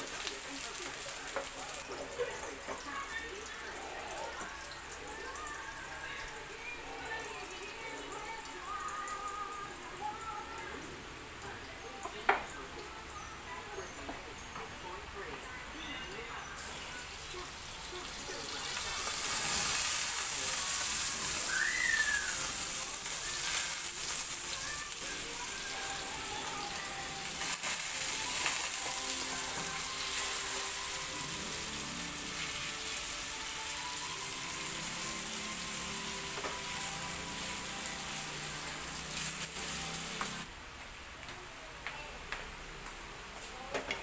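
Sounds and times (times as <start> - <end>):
chicken sizzling in a frying pan: 0.0 - 12.9, 16.5 - 40.5.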